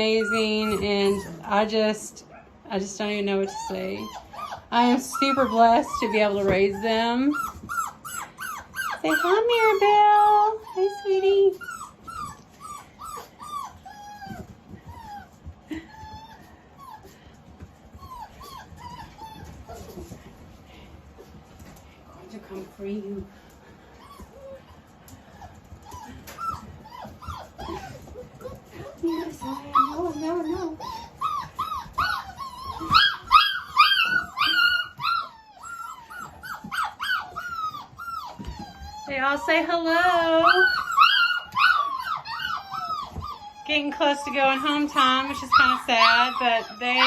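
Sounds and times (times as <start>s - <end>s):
puppies whining: 0.0s - 47.0s.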